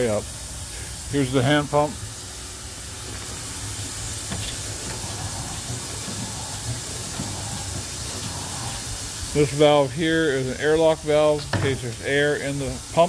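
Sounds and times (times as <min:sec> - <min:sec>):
steam hissing from boiler: 0:00.0 - 0:13.0.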